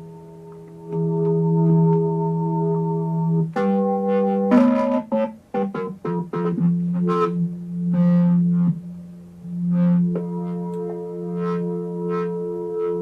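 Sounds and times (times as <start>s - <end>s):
synthesizer notes: 0.0s - 13.0s.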